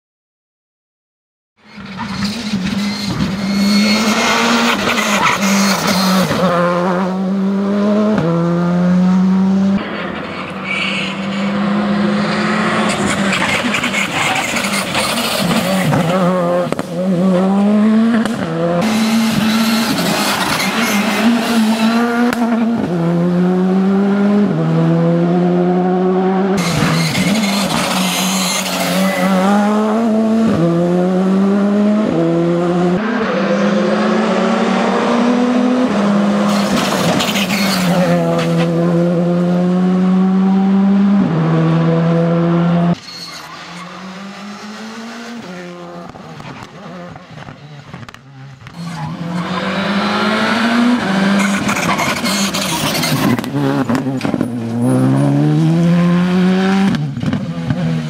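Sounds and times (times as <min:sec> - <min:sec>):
car engine revving through gears: 0:01.7 - 0:09.8, 0:11.1 - 0:58.0.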